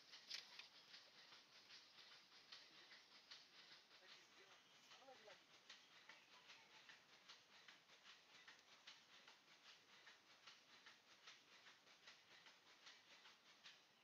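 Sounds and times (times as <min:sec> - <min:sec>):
faint rapid ticking: 0:00.0 - 0:14.0.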